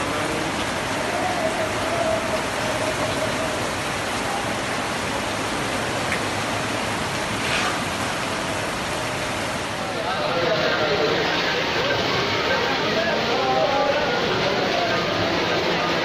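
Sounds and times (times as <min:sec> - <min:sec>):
heavy rain on wet paving: 0:00.0 - 0:16.0.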